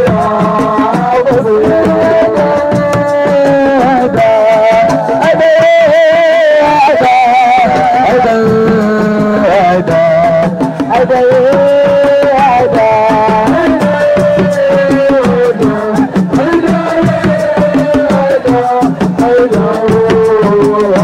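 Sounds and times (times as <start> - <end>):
hand drums: 0.0 - 21.0
person singing: 0.0 - 21.0.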